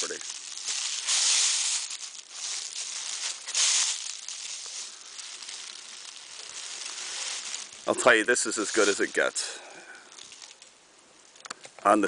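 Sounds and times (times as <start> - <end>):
footsteps crunching dry leaves: 0.0 - 10.8.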